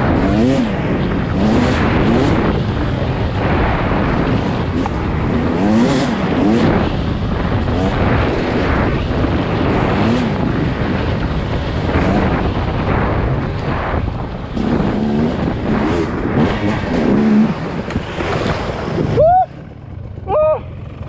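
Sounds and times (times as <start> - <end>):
wind noise on microphone: 0.0 - 19.7
dirt bike engine revving: 0.0 - 21.0
heavy rumble: 0.0 - 21.0.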